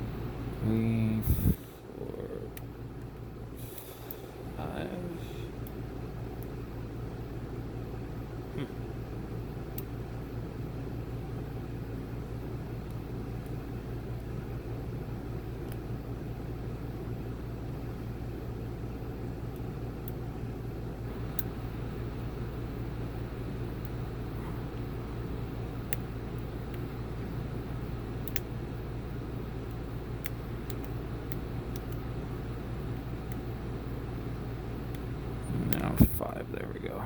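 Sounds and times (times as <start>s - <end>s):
low background rumble: 0.0s - 37.0s.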